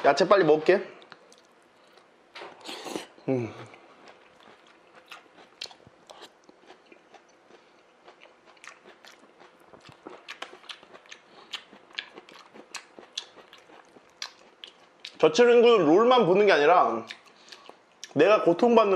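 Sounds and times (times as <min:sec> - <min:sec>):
person chewing crunchy salad: 0:01.0 - 0:15.2, 0:17.0 - 0:18.2.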